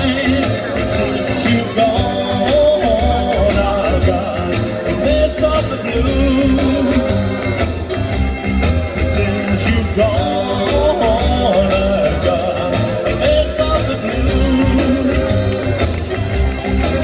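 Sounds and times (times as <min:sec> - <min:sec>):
upbeat rock and roll song: 0:00.0 - 0:17.0.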